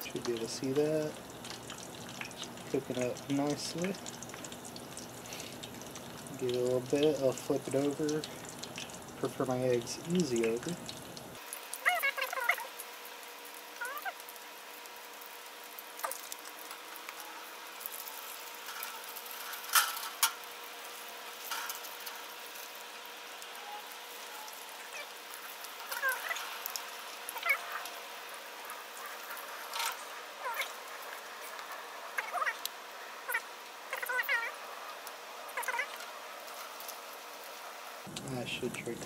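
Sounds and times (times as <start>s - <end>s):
camp stove burner hissing: 0.0s - 11.8s, 12.8s - 39.0s
egg sizzling in skillet: 0.0s - 39.0s.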